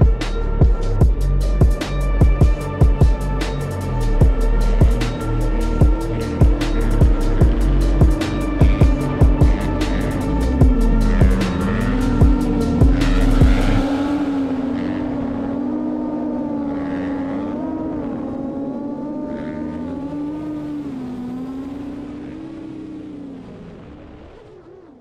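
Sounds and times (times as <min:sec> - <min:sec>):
motor humming: 0:00.0 - 0:22.2.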